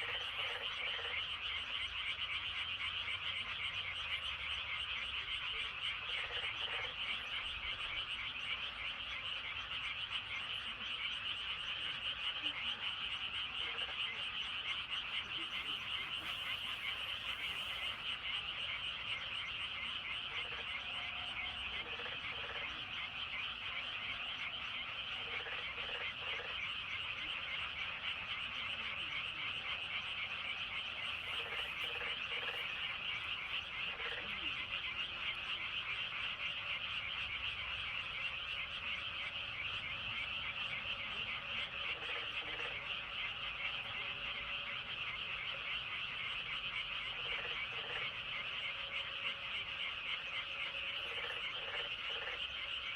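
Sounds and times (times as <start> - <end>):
frogs trilling: 0.0 - 52.9
low frog croaks: 0.0 - 52.9.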